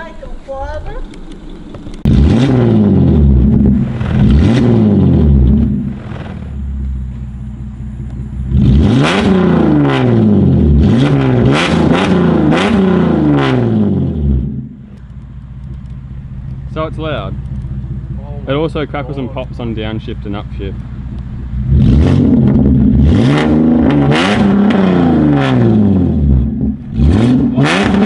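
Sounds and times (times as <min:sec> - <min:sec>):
car engine revving: 0:01.0 - 0:28.0.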